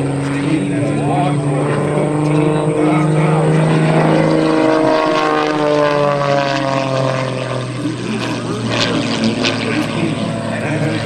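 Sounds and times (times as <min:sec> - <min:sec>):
propeller plane engine passing: 0:00.0 - 0:11.0.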